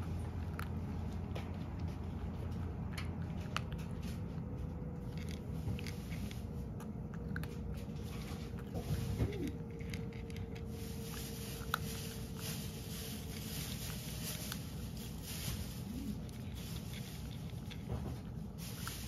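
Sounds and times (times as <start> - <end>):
cat crunching dry kibble: 0.0 - 19.0
steady low hum: 0.0 - 19.0.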